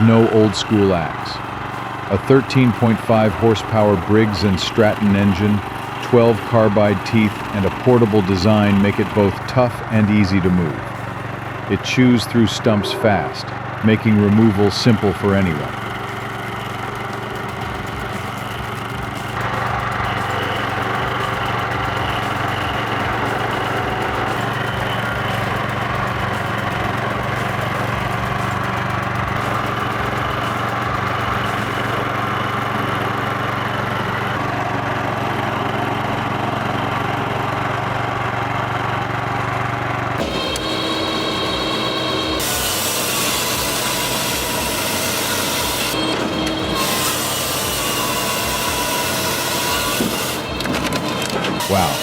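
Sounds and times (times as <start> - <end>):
small petrol engine running: 0.0 - 52.0.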